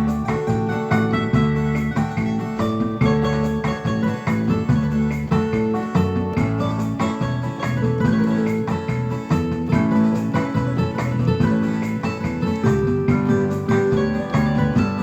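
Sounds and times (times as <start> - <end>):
keyboard instrumental music: 0.0 - 15.0.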